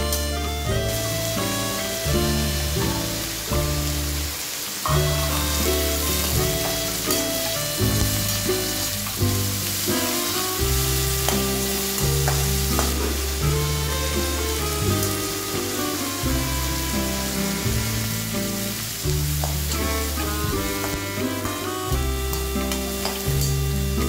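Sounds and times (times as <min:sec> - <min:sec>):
background music with bass line: 0:00.0 - 0:24.0
vegetables sizzling in oil: 0:00.0 - 0:24.0.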